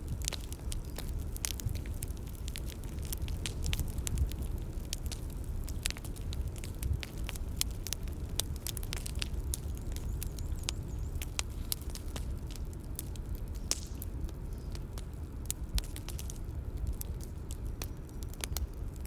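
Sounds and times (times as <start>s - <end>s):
bonfire crackling: 0.0s - 19.0s.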